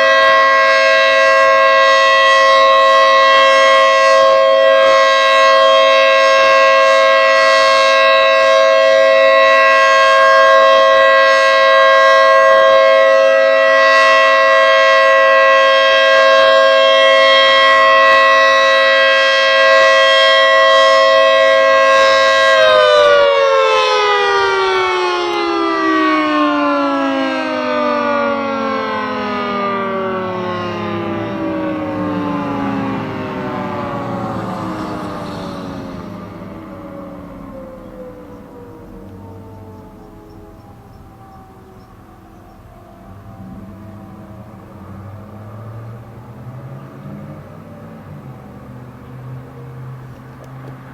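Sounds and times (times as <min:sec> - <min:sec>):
warning siren chord winding down: 0:00.0 - 0:50.9.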